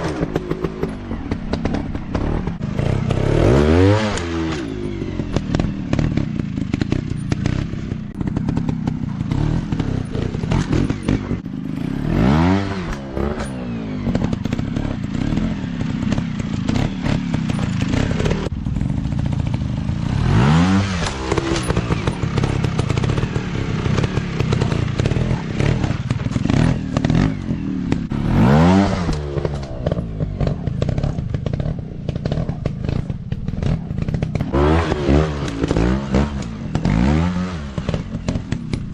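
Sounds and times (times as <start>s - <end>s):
dirt bike engine revving: 0.0s - 38.9s
rattling and clatter: 0.0s - 38.9s.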